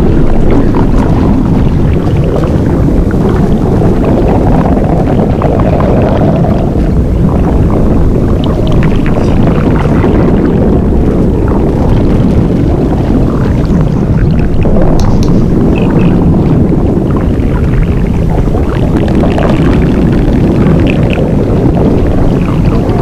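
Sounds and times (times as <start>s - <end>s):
deep rumbling: 0.0s - 23.0s.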